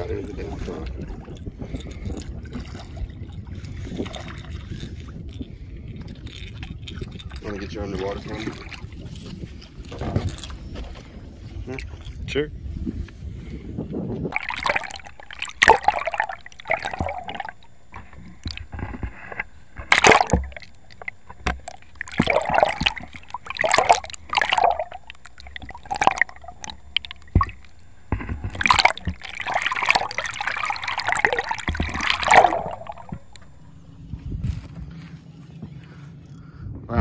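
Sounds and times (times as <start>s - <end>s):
water sloshing underwater: 0.0s - 36.1s.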